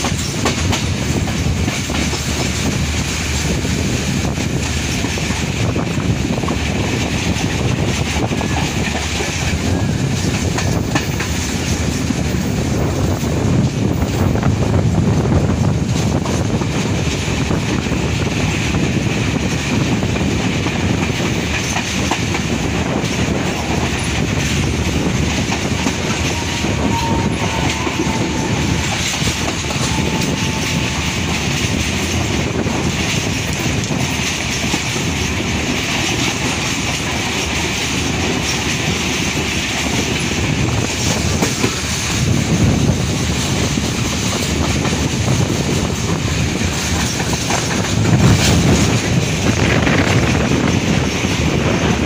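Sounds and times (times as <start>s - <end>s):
train wheels on rails: 0.0s - 52.0s.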